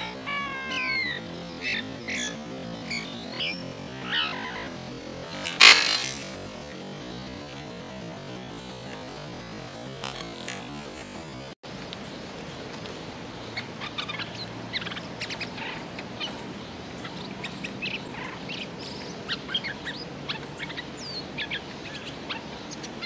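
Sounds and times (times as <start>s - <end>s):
bird chirping: 0.0s - 23.0s
steady background hiss: 0.0s - 23.0s.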